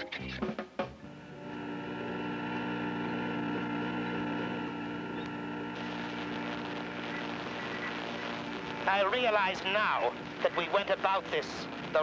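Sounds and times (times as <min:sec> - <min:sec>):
electronic spaceship hum: 0:01.0 - 0:12.0.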